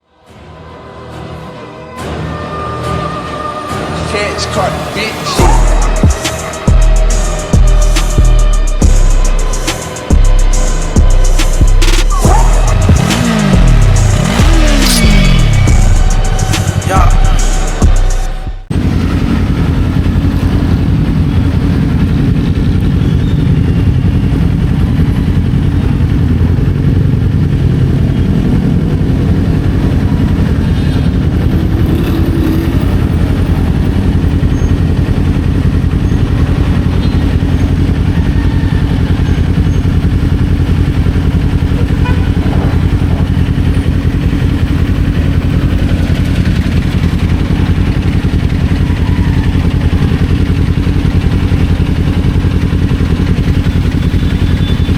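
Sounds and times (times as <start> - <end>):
motorcycle engine running: 5.4 - 54.9.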